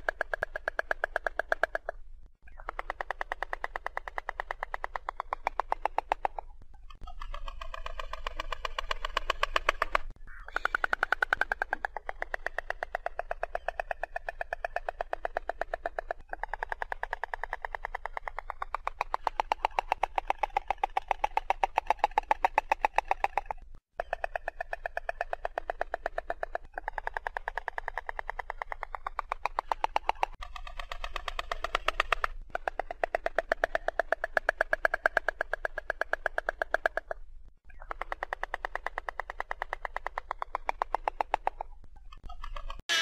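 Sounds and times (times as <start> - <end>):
stork bill-clattering: 2.6 - 42.8.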